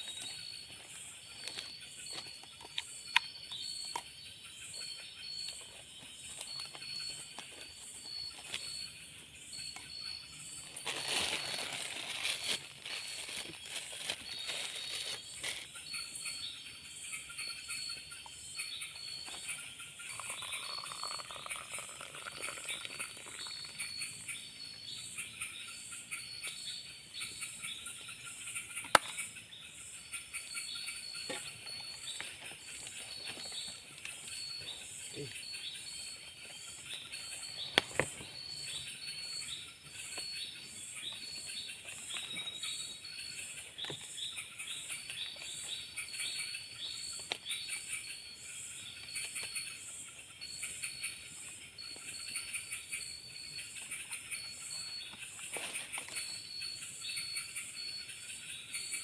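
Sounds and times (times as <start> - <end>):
bird calls: 0.0 - 59.0
insects chirping: 0.0 - 59.0.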